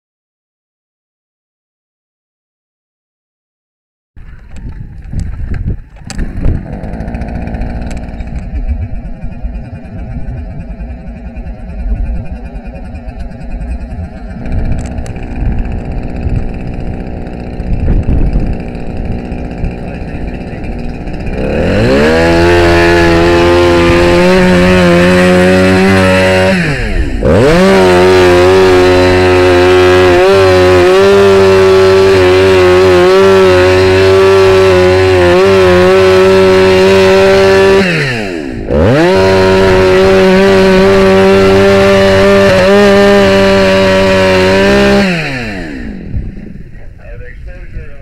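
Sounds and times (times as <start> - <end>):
rescue saw cutting metal: 6.0 - 46.6.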